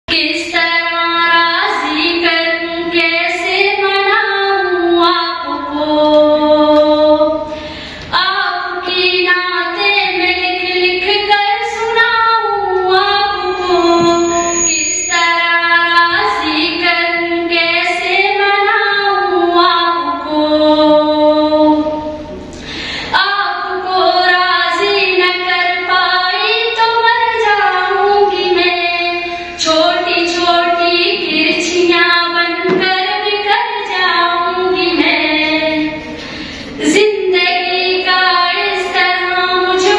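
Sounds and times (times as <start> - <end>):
girl singing devotional song: 0.1 - 22.2, 23.1 - 39.9.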